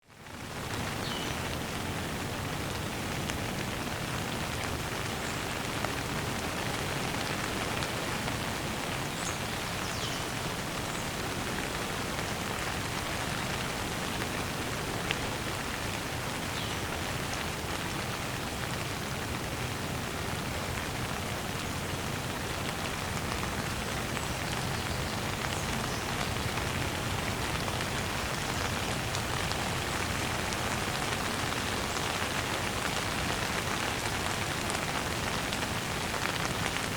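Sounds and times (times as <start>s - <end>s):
rain patter: 0.0s - 36.9s.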